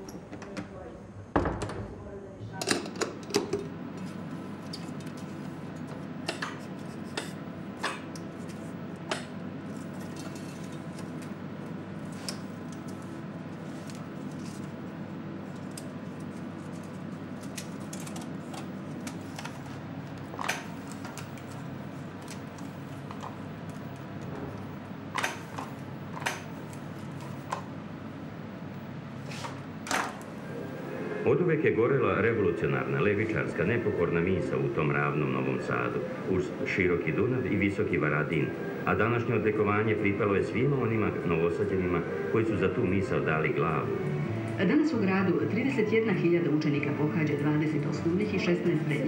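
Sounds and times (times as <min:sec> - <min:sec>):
low machine hum: 0:00.0 - 0:49.0.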